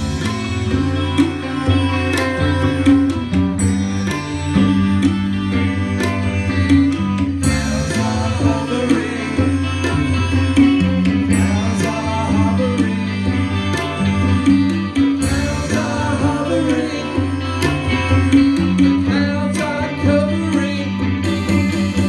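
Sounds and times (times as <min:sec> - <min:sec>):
drum kit with cymbal hits: 0:00.0 - 0:22.0
electric bass: 0:00.0 - 0:22.0
electric guitars: 0:00.0 - 0:22.0.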